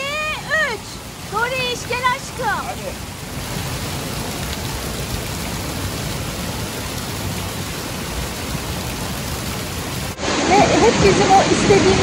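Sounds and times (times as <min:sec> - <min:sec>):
water rushing from slide: 0:00.0 - 0:12.0.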